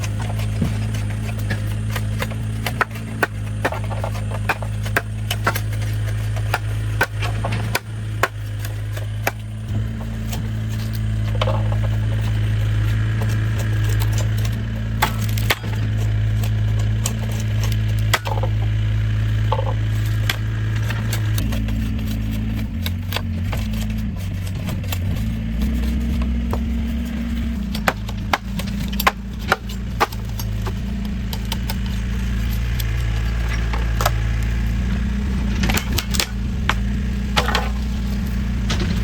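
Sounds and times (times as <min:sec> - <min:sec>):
low engine-like hum: 0:00.0 - 0:39.0
sharp wooden knocks: 0:00.0 - 0:39.0.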